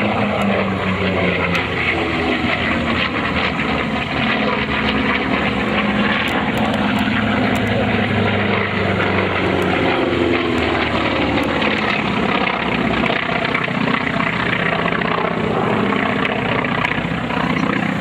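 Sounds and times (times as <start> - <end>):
propeller planes flying past: 0.0 - 18.0.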